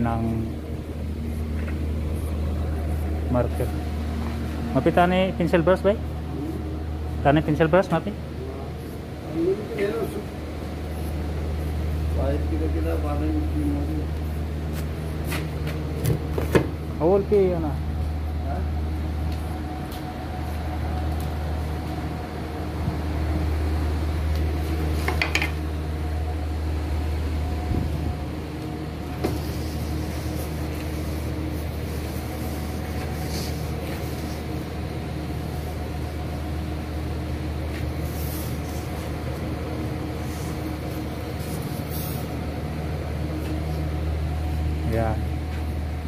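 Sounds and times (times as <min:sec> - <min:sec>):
faint constant whine: 0:00.0 - 0:46.0
low machine hum: 0:00.0 - 0:46.0.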